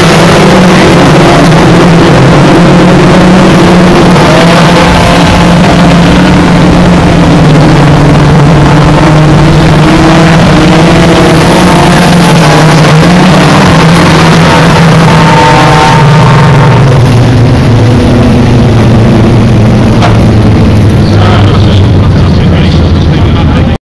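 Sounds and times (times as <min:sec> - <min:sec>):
race car engines running: 0:00.0 - 0:23.8.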